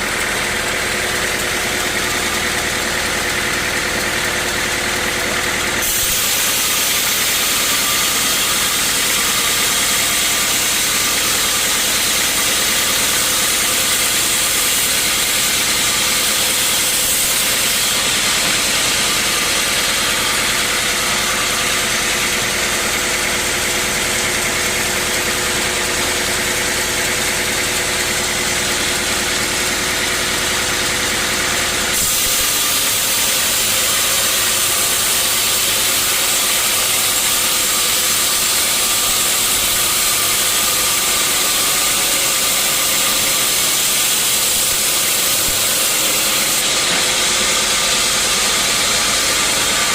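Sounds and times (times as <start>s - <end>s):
saw cutting through log: 0.0s - 49.9s
sawmill engine hum: 0.0s - 49.9s.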